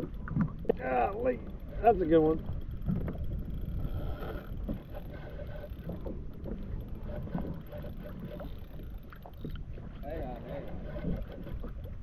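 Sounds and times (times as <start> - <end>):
water lapping against hull: 0.0 - 12.0
wind rumbling on microphone: 0.0 - 12.0.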